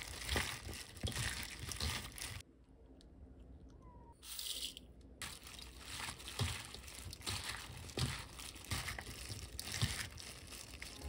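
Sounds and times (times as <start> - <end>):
oily vegetables squishing: 0.0 - 2.4, 4.2 - 11.0
plastic glove crinkling: 0.0 - 2.4, 4.2 - 11.0.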